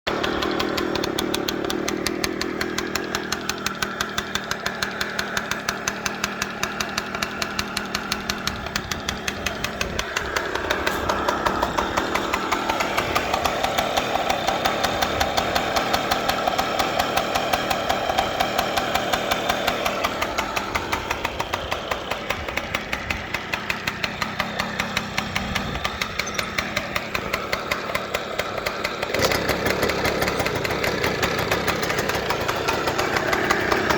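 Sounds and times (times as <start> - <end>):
two-stroke minibike engine running: 0.1 - 33.9.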